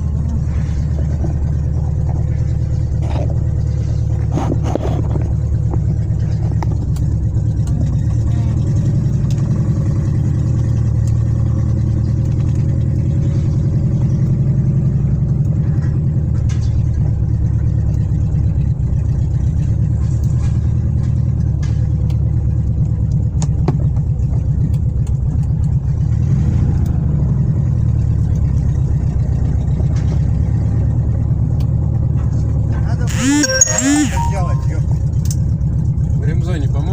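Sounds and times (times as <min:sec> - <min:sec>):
car engine running steadily: 0:00.0 - 0:36.9.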